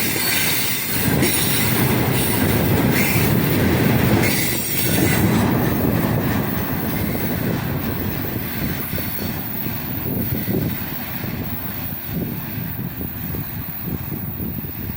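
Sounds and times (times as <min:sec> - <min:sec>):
freight train wheels rumbling: 0:00.0 - 0:14.9.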